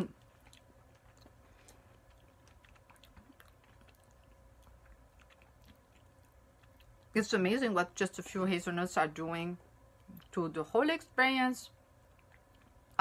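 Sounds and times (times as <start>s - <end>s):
faint chocolate chewing: 0.0s - 8.4s, 9.8s - 10.5s, 11.7s - 13.0s.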